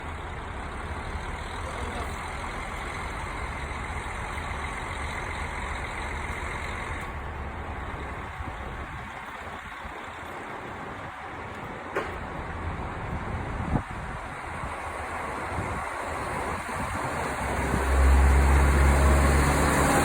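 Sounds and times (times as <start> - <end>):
railcar diesel engine rumbling: 0.0 - 20.0.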